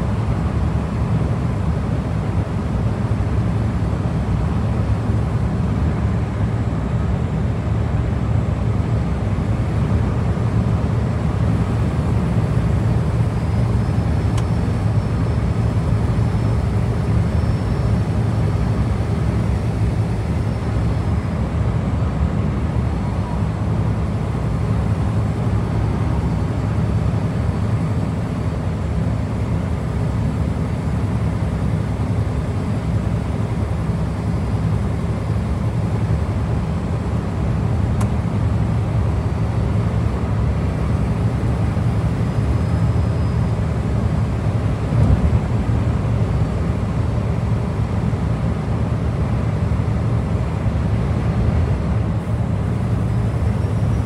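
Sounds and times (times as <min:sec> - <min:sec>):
diesel truck engine droning: 0:00.0 - 0:54.0.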